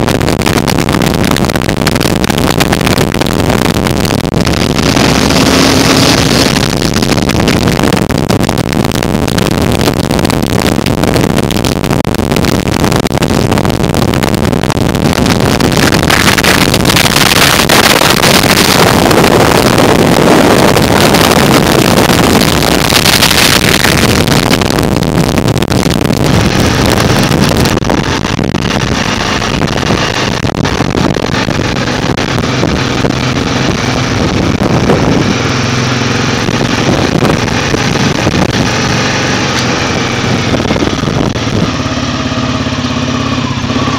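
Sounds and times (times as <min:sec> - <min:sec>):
motorcycle engine: 0:00.0 - 0:43.9
wind rush on microphone: 0:00.0 - 0:43.9.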